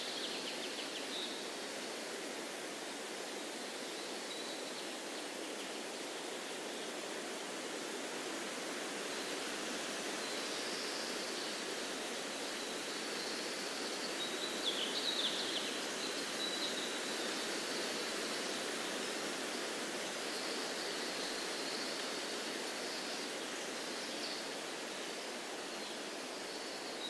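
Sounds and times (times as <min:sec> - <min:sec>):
rushing nature ambience: 0:00.0 - 0:27.0.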